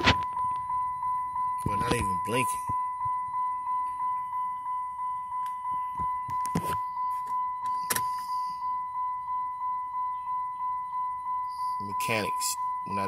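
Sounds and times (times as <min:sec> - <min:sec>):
dashboard warning chime: 0:00.0 - 0:13.0.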